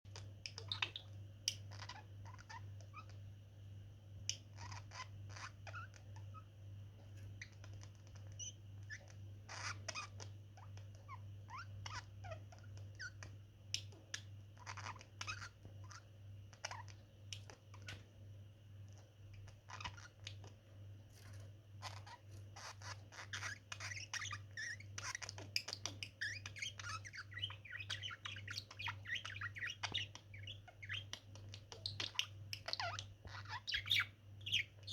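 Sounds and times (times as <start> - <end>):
budgerigars chirping and squawking: 0.1 - 3.2, 4.4 - 6.4, 7.4 - 18.1, 19.3 - 34.9.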